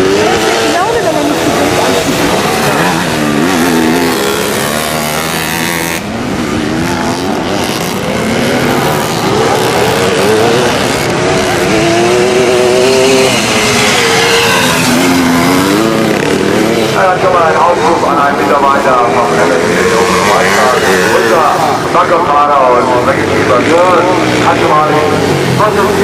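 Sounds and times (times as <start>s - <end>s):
motocross motorcycles revving: 0.0s - 26.0s.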